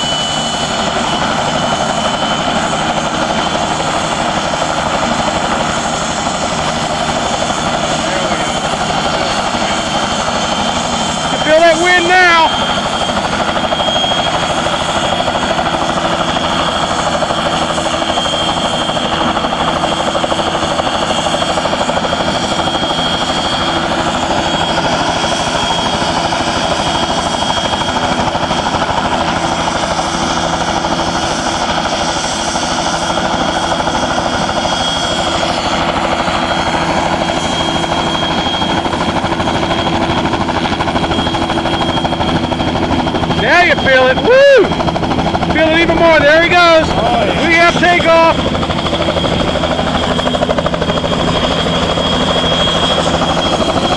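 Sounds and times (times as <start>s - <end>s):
helicopter turbine whine: 0.0s - 53.9s
rotor blades beating: 0.0s - 53.9s.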